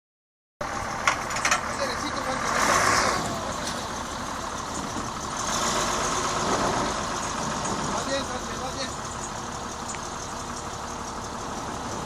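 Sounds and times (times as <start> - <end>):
diesel engine idling: 0.6 - 12.0.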